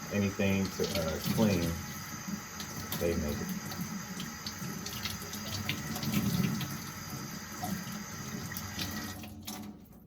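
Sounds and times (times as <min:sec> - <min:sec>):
hand washing under water: 0:00.0 - 0:10.0
kitchen tap running into sink: 0:00.0 - 0:10.0.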